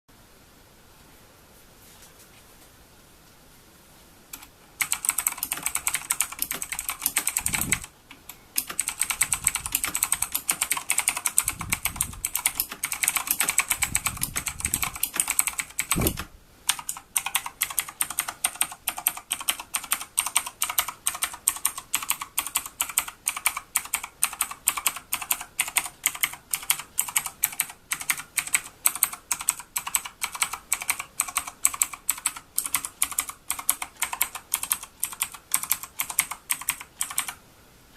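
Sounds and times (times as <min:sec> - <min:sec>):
mechanical keyboard typing: 0:04.3 - 0:37.4.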